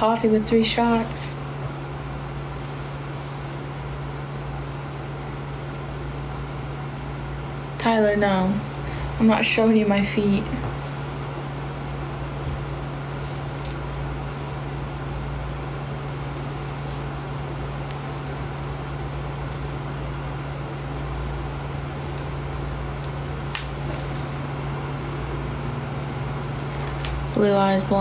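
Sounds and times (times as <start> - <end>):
air conditioner running: 0.0 - 28.0.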